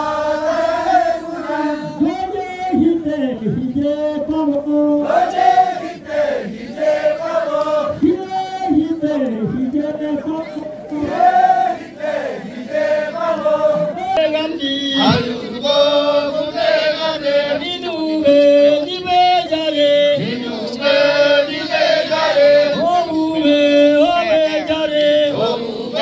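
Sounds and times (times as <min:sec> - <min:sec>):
men chanting into microphones: 0:00.0 - 0:26.0.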